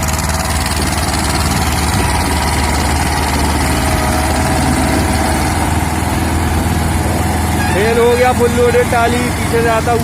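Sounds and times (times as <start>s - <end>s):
tractor diesel engine labouring: 0.0s - 10.0s.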